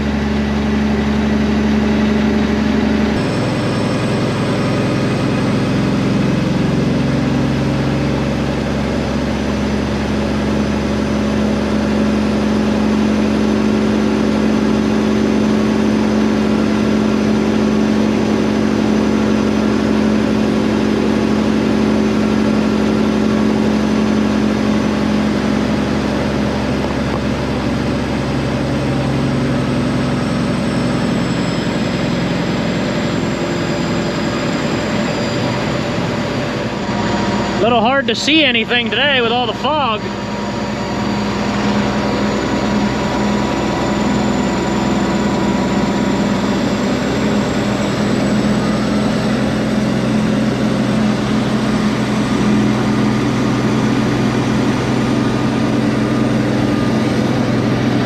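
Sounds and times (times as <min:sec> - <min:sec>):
truck diesel engine droning: 0:00.0 - 0:58.0.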